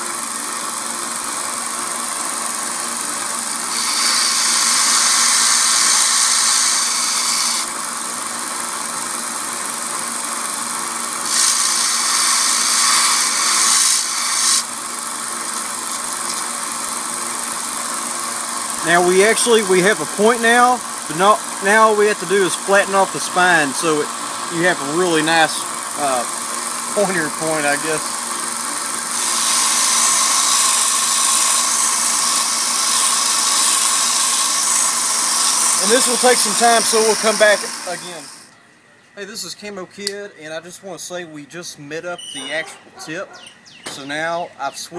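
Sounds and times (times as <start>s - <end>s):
belt sander running: 0.0s - 38.5s.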